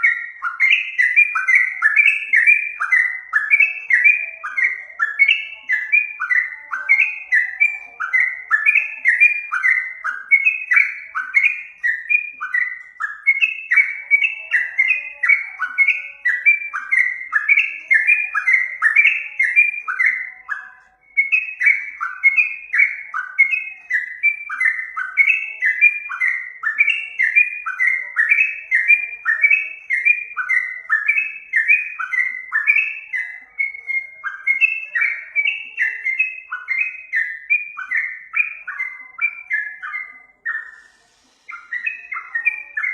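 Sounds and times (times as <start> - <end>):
songbird whistling falling notes: 0.0 - 42.9.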